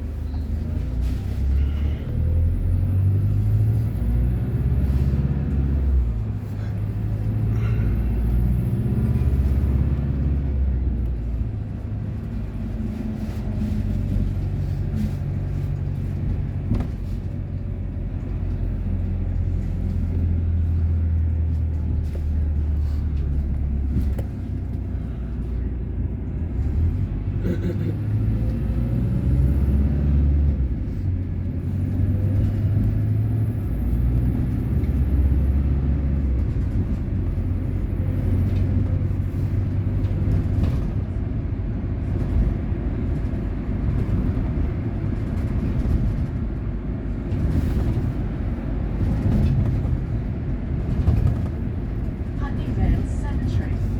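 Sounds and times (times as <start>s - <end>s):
low engine rumble: 0.0s - 53.9s.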